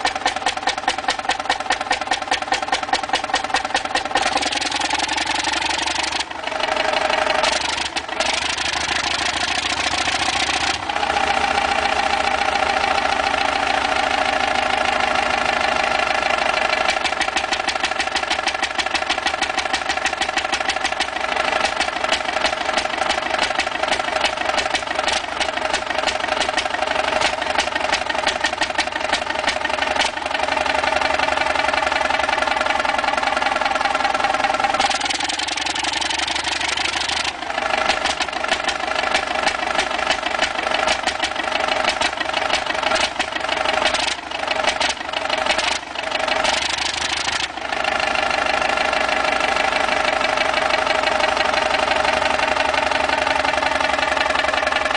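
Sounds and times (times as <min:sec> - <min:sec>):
large engine knocking: 0:00.0 - 0:54.9.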